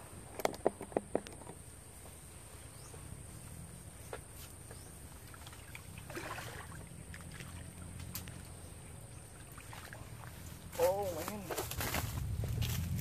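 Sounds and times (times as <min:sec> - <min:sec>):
steady low hum: 0:01.1 - 0:13.0.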